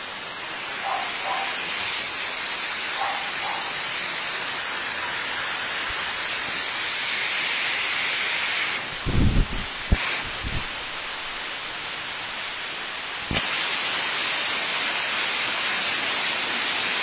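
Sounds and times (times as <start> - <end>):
rushing hiss of falling ash: 0.0 - 17.0.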